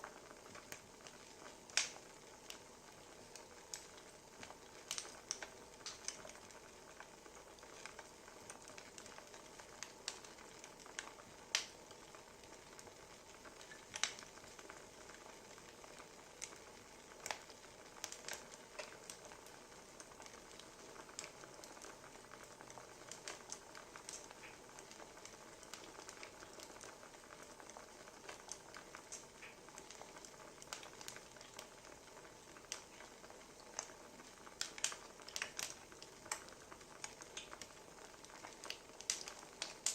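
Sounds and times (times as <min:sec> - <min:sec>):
quiet steady hiss: 0:00.0 - 0:39.9
wood fire crackling: 0:00.0 - 0:39.9.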